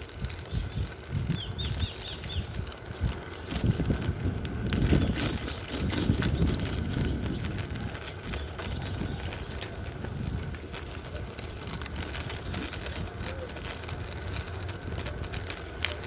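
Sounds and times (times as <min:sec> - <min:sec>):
tyres on wet road: 0:00.0 - 0:16.0
wind buffeting microphone: 0:00.0 - 0:16.0.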